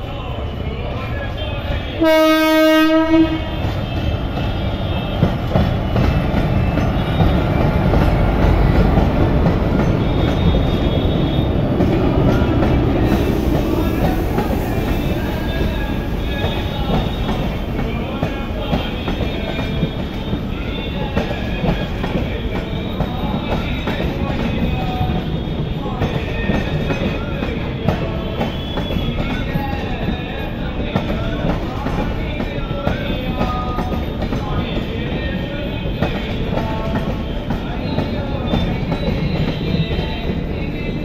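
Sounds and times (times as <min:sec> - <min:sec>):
train wheels rumbling and clattering: 0:01.1 - 0:41.0.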